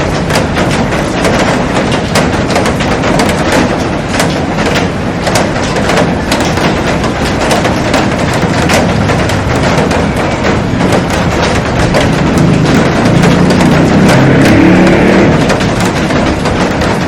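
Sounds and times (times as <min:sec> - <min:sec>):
heavy rain on glass roof: 0:00.0 - 0:17.0.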